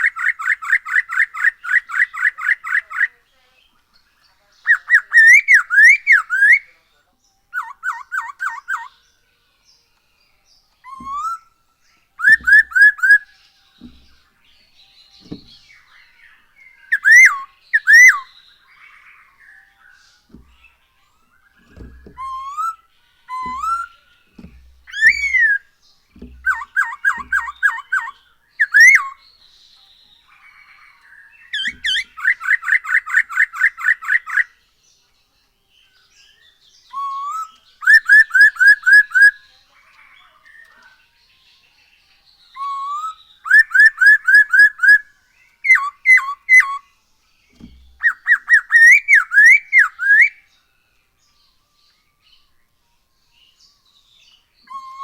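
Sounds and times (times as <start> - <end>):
bird singing whistled notes: 0.0 - 9.3, 10.0 - 55.0.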